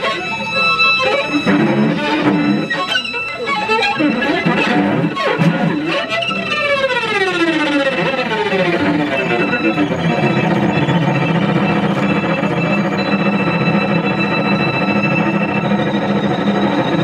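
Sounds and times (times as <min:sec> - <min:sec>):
bowed cello: 0:00.0 - 0:17.0
gliding pitched electronic sound: 0:00.0 - 0:17.0.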